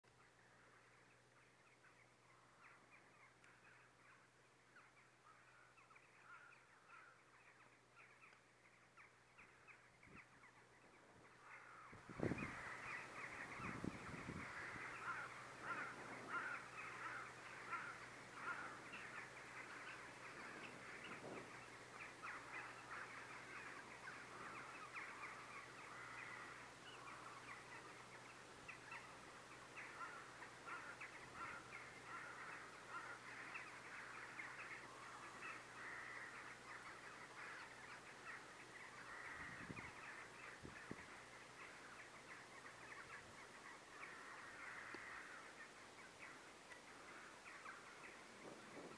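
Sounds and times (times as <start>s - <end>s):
crows cawing: 2.3s - 9.8s, 11.3s - 48.9s.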